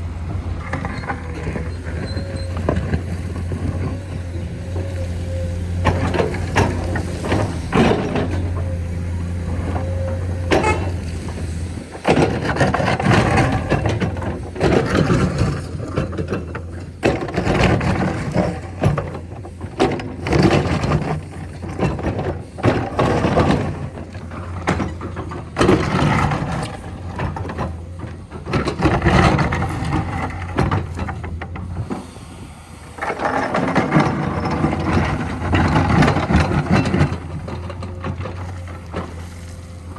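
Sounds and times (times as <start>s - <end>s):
diesel engine humming: 0.0s - 39.9s
scraping and clanking: 0.4s - 39.9s.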